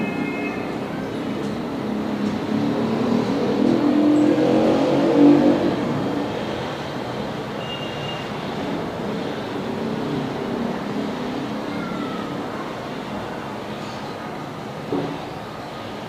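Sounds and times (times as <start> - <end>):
steady traffic roar: 0.0 - 16.0.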